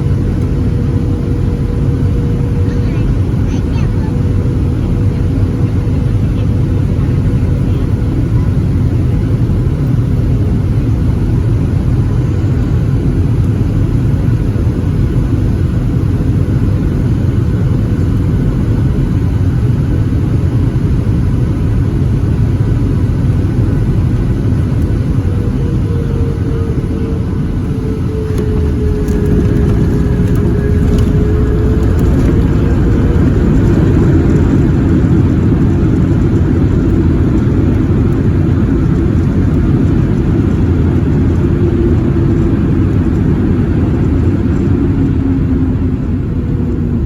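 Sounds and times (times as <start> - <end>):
airplane cabin engine rumble: 0.0 - 47.0
faint steady whine: 0.0 - 47.0.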